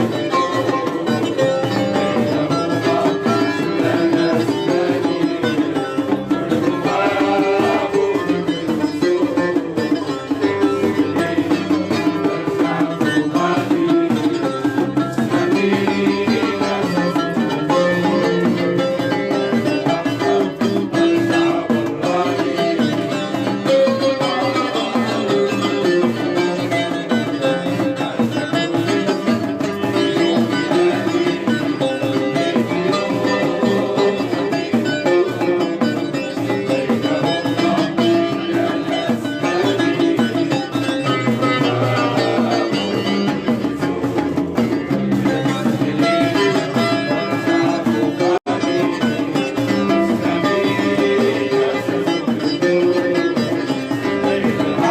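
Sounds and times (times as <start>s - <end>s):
hand drum beat: 0.0s - 54.9s
plucked string instruments: 0.0s - 54.9s.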